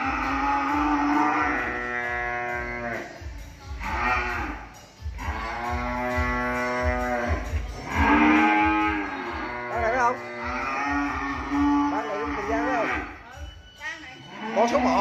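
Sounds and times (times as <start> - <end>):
cattle mooing: 0.0 - 3.2, 3.8 - 13.2, 14.2 - 15.0.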